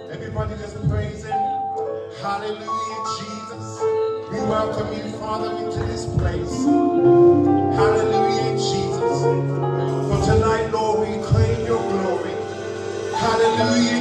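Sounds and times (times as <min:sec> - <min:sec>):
praise band playing worship song: 0:00.0 - 0:14.0.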